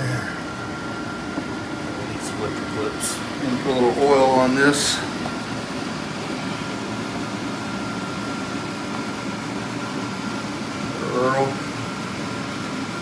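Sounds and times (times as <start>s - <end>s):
air conditioner hum: 0.0s - 13.0s
faint high whine: 0.0s - 13.0s.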